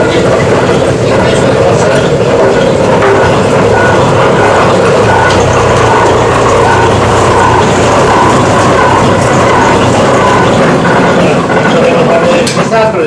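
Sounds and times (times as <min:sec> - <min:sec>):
clay-refining machine rumbling: 0:00.0 - 0:13.0.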